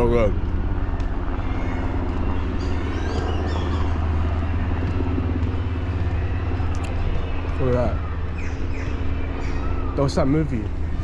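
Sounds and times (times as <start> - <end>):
motor droning: 0.0 - 11.0.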